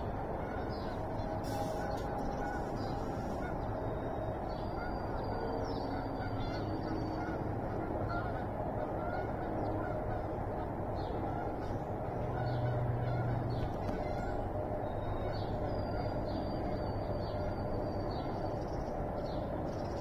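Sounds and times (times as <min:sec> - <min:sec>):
birds chirping: 0:00.0 - 0:20.0
low hum: 0:00.0 - 0:20.0
steady low rumble: 0:00.0 - 0:20.0.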